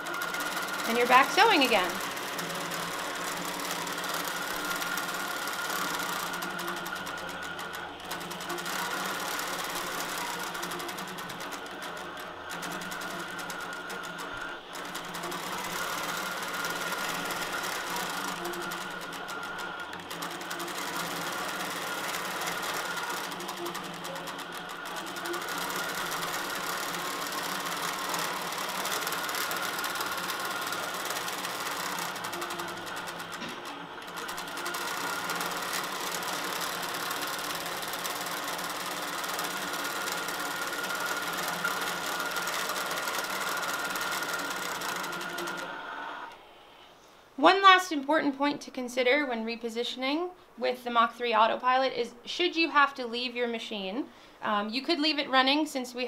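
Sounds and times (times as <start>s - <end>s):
quilting machine stitching: 0.0s - 46.4s.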